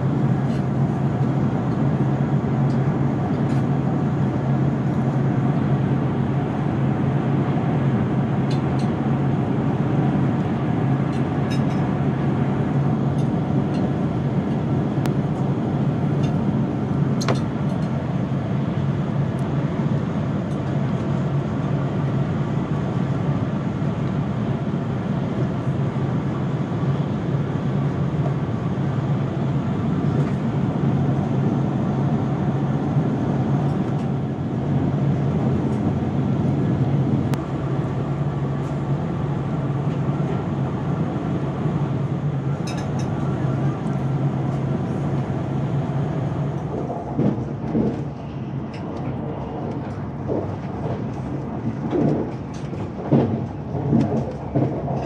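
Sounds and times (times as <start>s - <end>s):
high-speed train rumble: 0.0s - 55.0s.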